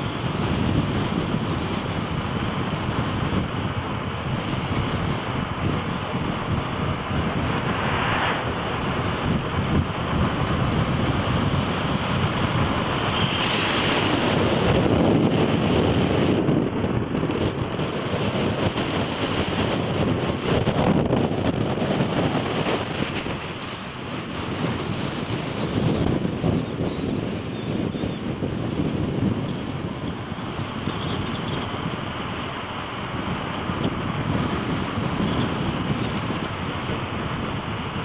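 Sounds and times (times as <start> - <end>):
road and engine noise: 0.0 - 38.0
wind buffeting microphone: 0.0 - 38.0.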